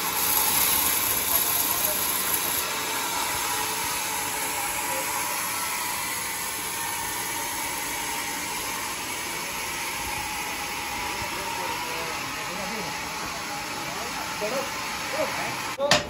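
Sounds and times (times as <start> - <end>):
sawmill saw cutting wood: 0.0 - 15.8.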